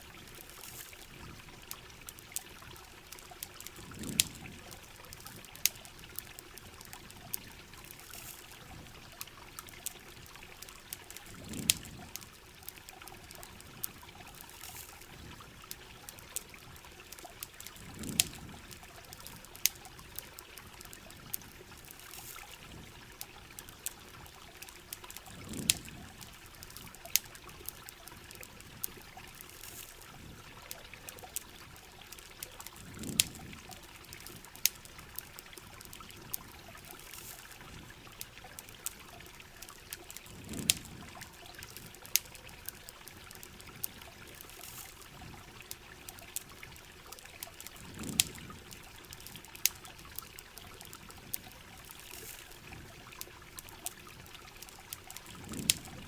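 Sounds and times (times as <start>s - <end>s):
campfire crackling and popping: 0.0s - 56.0s
river water running: 0.0s - 56.0s
steady rain: 0.0s - 56.0s.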